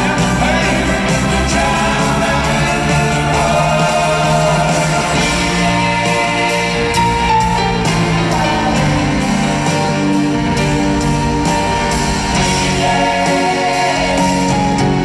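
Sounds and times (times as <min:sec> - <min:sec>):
live rock band with strings: 0:00.0 - 0:15.0.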